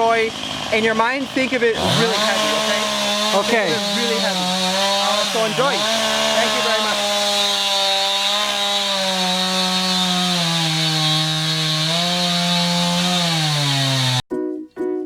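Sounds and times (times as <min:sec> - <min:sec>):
chainsaw engine revving: 0:00.0 - 0:14.2.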